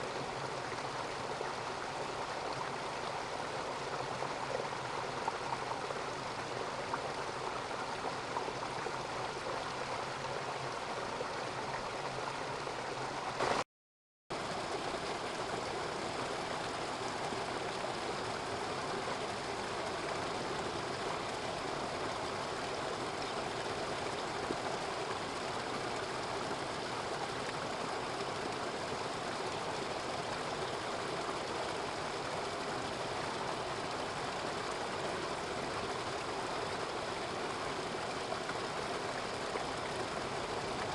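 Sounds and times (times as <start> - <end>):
stream rushing over rocks: 0.0 - 13.6, 14.4 - 40.9.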